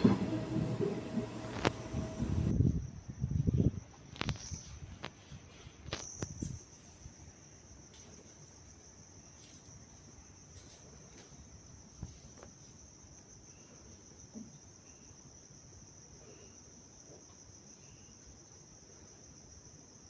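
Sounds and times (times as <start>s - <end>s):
high-pitched insect trill: 2.5s - 20.0s.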